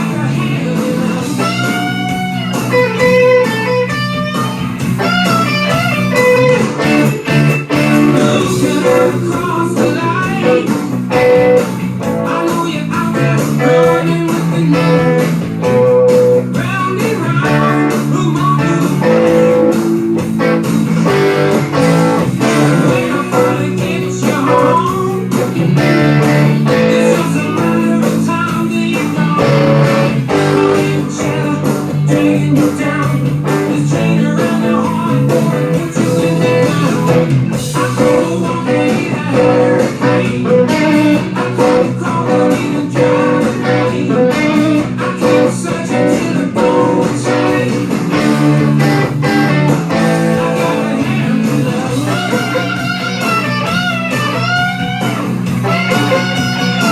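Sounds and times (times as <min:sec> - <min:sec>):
bending electric guitar notes: 0:00.0 - 0:56.9
blues-rock band playing: 0:00.0 - 0:56.9.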